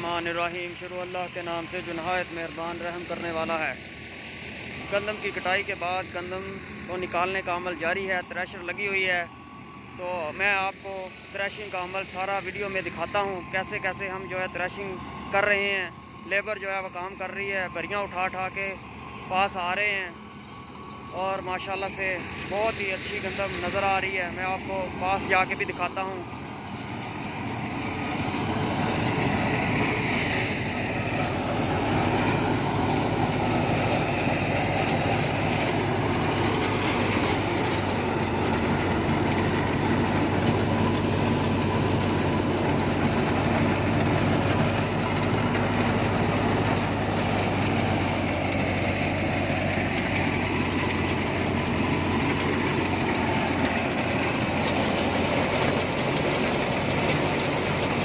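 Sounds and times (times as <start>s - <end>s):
thresher machinery drone: 0.0s - 58.0s.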